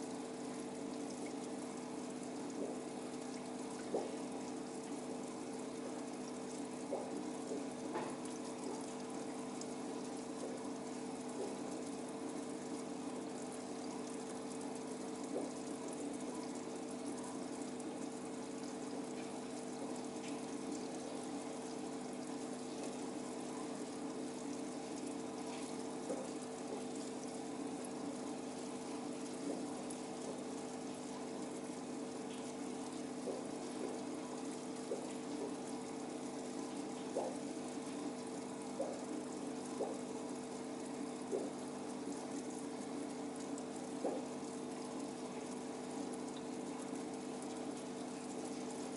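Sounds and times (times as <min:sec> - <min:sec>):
aquarium pump humming: 0:00.0 - 0:48.9
moving water: 0:00.0 - 0:48.9
faint ticks: 0:01.1 - 0:48.9.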